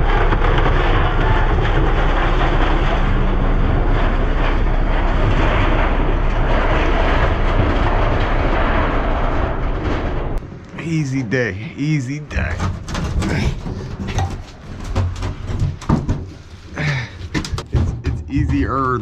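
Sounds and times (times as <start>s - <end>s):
heavy engine running: 0.0s - 19.0s
low hum: 0.0s - 19.0s.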